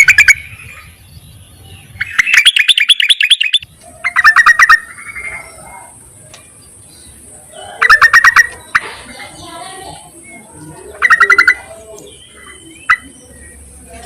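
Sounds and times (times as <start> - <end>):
bird chattering call: 0.0 - 1.0, 1.6 - 6.0, 7.0 - 13.8.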